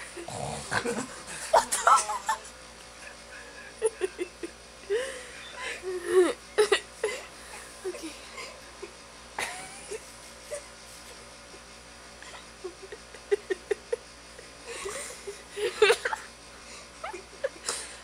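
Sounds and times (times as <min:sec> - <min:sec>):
person giggling: 0:00.1 - 0:10.6, 0:12.2 - 0:16.3, 0:17.0 - 0:18.0
person laughing: 0:00.1 - 0:10.6, 0:12.3 - 0:16.3, 0:17.0 - 0:18.0.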